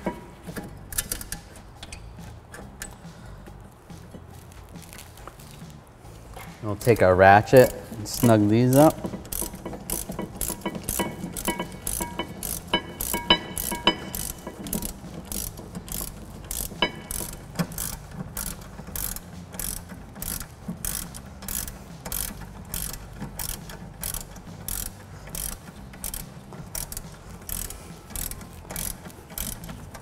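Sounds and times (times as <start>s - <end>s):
hand ratchet clicking: 0.0s - 4.2s, 6.9s - 30.0s.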